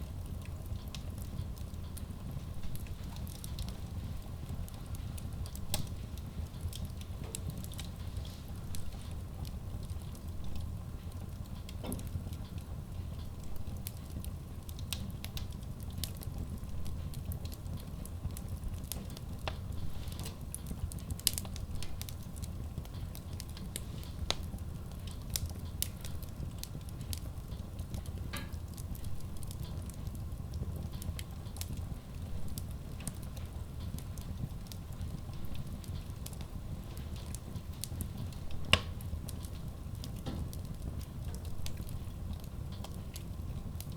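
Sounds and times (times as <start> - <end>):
fire crackling and popping: 0.0 - 43.9
wood fire rumbling: 0.0 - 43.9.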